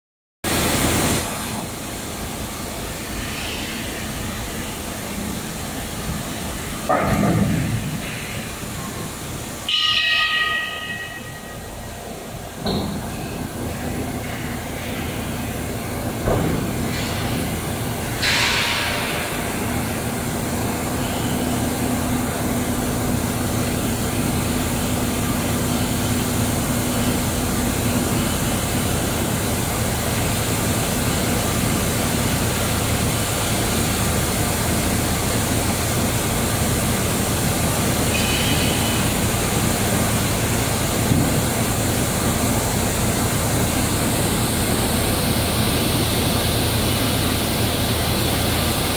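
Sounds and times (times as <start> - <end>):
machinery mechanical drone: 0.5 - 48.9.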